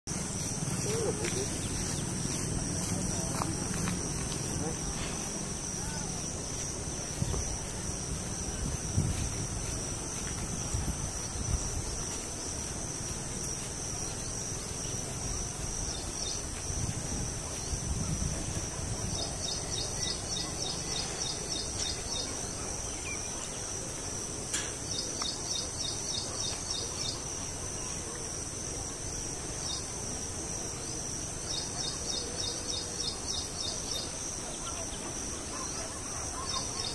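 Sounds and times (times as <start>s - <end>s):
insects droning: 0.1s - 36.9s
rapid insect chirping: 0.1s - 36.9s.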